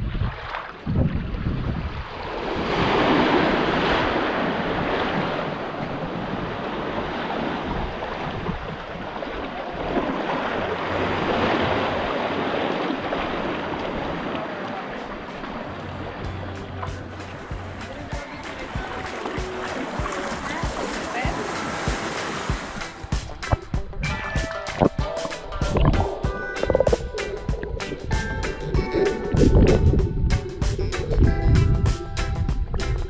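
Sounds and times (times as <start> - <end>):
waves breaking against rocks: 0.0 - 30.0
wind rumbling on microphone: 0.0 - 33.0.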